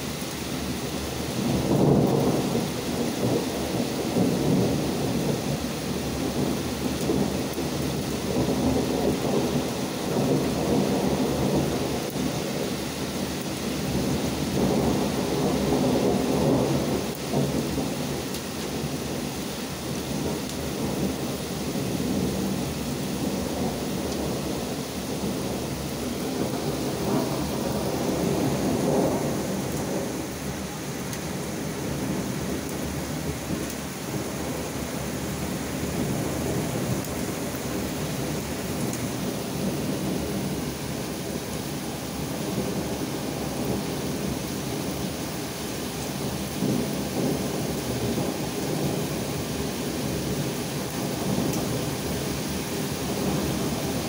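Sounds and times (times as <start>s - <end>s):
heavy rain and hail: 0.0s - 54.0s
thunder rumbling: 1.3s - 45.1s, 46.1s - 54.0s.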